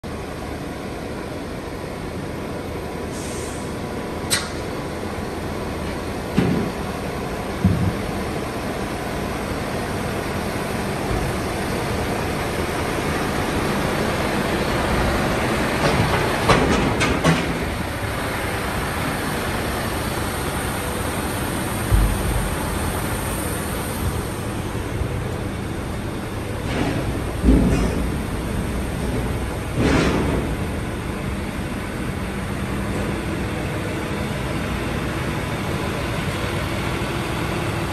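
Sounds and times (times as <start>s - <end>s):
crane engine running: 0.0s - 37.9s
diesel trucks idling: 0.0s - 37.9s.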